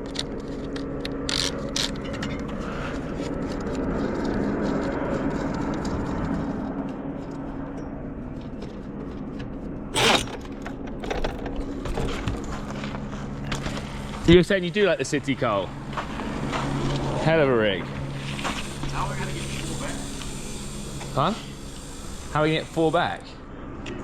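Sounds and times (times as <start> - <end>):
vehicle engine humming: 0.0 - 23.8.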